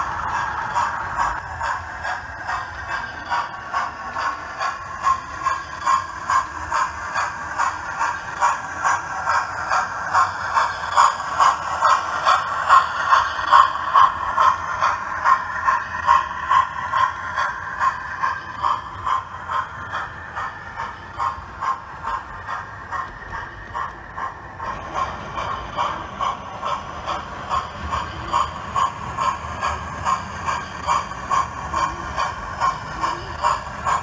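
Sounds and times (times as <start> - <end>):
model train running rhythmically: 0.0 - 34.0.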